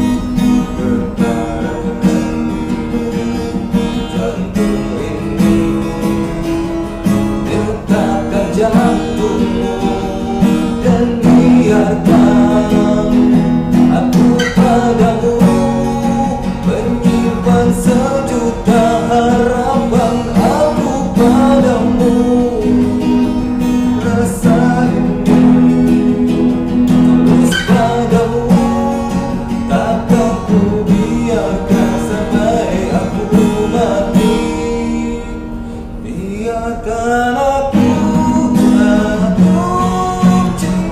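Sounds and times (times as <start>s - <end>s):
man singing: 0.0s - 40.9s
strummed acoustic guitar: 0.0s - 40.9s.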